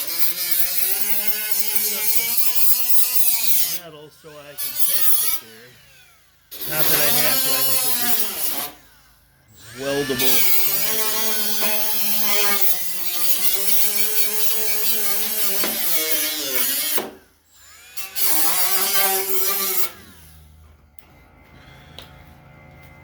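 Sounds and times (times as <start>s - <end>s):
angle grinder grinding steel: 0.0s - 23.0s.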